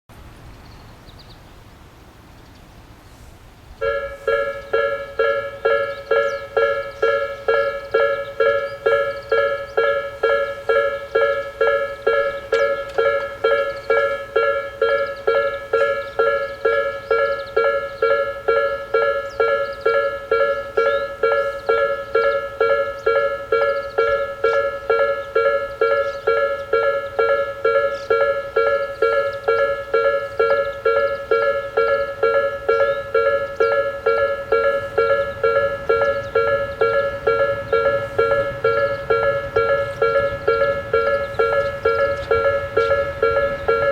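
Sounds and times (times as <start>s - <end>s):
level crossing alarm bell: 3.8s - 43.9s
second lower crossing alarm: 3.8s - 43.9s.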